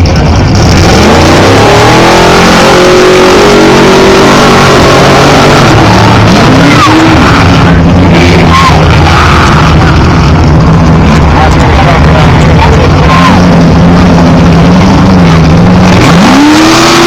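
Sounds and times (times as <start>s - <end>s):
dense engine noise: 0.0s - 17.0s
race engine revving: 0.0s - 17.0s.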